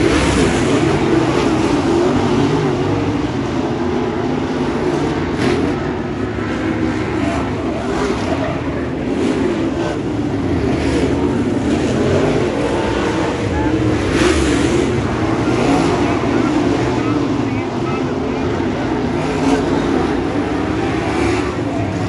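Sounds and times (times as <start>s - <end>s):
race car engines blaring: 0.0s - 22.0s.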